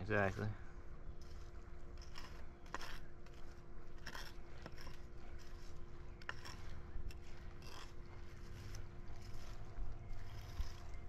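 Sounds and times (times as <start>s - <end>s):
hand tool scraping sand: 0.0s - 0.6s, 1.2s - 11.0s
low background noise with hum: 0.0s - 11.0s.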